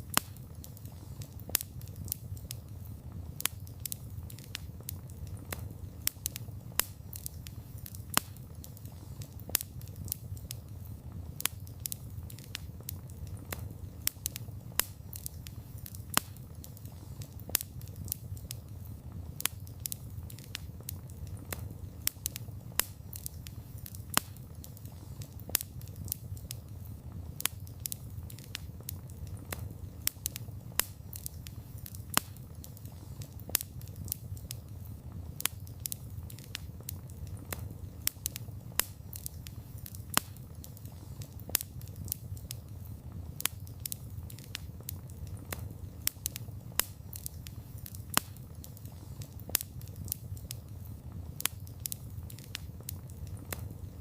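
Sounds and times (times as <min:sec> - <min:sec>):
burning wood crackling and popping: 0:00.0 - 0:54.0
fire flames rumbling: 0:00.0 - 0:54.0.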